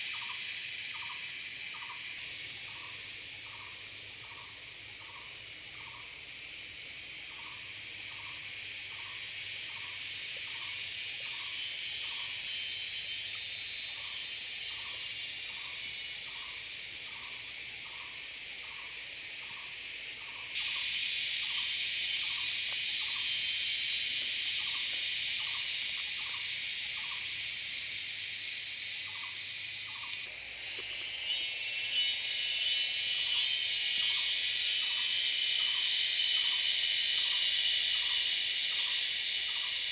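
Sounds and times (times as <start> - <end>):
insect chorus: 0.0 - 39.9
short repeating insect call: 0.0 - 39.9.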